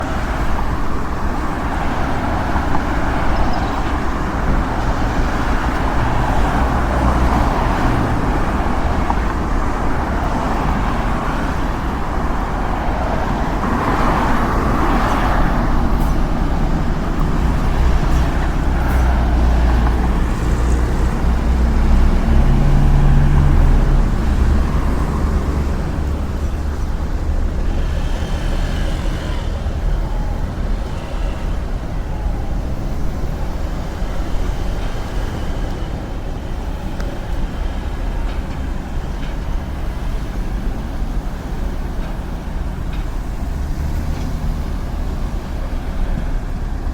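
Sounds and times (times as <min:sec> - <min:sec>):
street traffic passing: 0:00.0 - 0:46.9.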